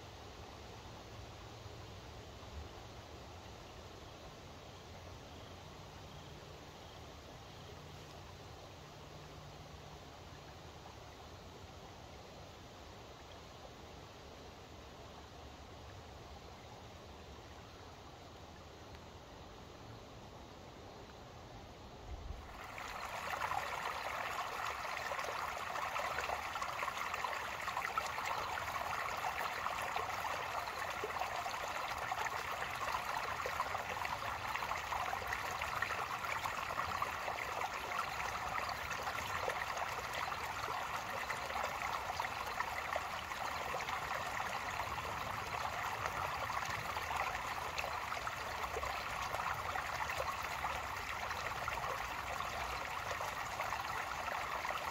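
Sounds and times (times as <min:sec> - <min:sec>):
creek water trickling over stones: 0:00.0 - 0:54.9.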